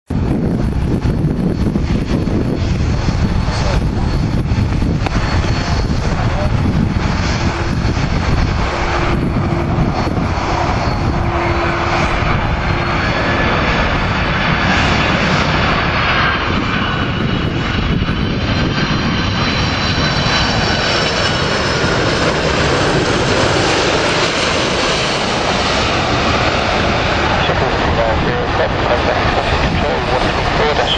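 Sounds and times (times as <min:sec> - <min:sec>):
jet airliner passing overhead: 0:00.1 - 0:30.9
jet engine high whine: 0:00.1 - 0:30.9.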